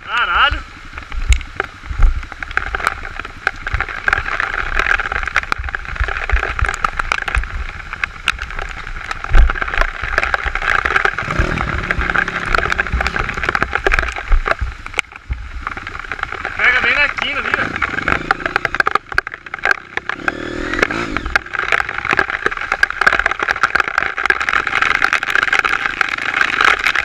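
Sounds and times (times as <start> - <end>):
bike rattling over rough ground: 0.0 - 27.0
dirt bike engine running: 0.1 - 27.0.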